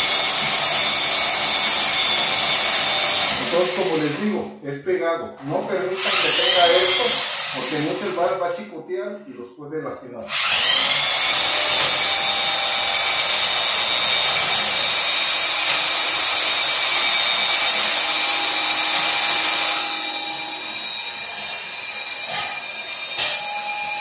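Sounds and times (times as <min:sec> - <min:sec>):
electric drill whining: 0:00.0 - 0:04.2, 0:06.0 - 0:08.2, 0:10.3 - 0:24.0.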